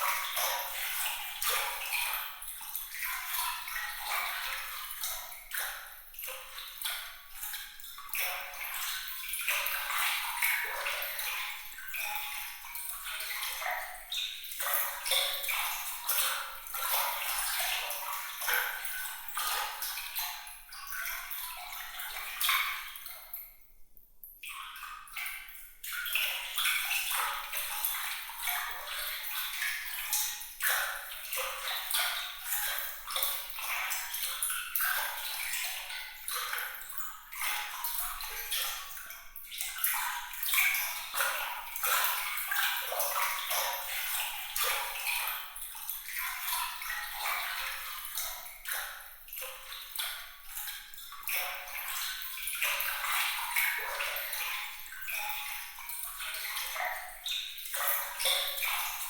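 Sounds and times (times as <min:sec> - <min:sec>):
water trickling and splashing: 0:00.0 - 0:23.7, 0:24.4 - 0:59.0.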